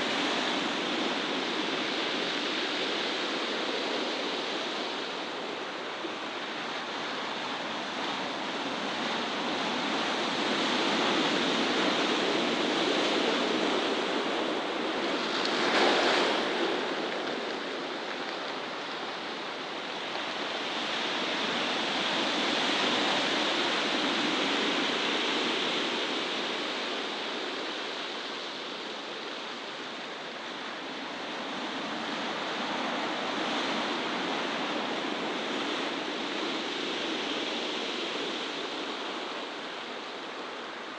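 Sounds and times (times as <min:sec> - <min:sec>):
rushing outdoor noise: 0:00.0 - 0:40.9.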